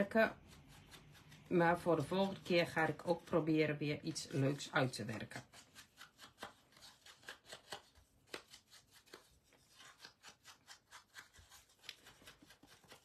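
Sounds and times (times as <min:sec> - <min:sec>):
foam tool swishing on paper: 0:00.0 - 0:13.0.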